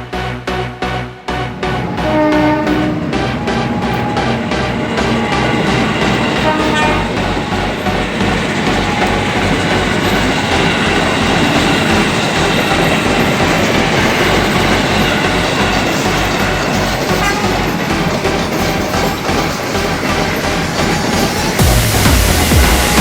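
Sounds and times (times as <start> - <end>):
diesel locomotive humming: 0.0 - 23.0
train wheels rumbling on rails: 0.9 - 23.0
wheels clattering over rail joints: 1.3 - 22.9.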